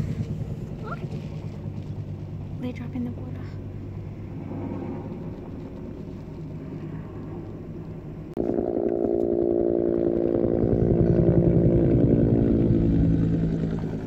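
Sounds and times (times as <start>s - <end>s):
loud engine drone: 0.0s - 14.0s
steady engine hum: 0.0s - 14.0s.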